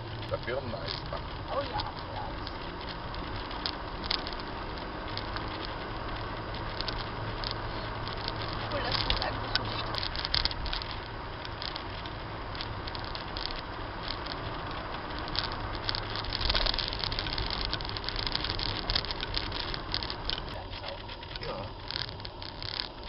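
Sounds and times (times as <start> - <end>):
low engine hum: 0.0 - 23.0
small clicks and rattles: 0.0 - 23.0
tyre and road noise: 0.0 - 23.0.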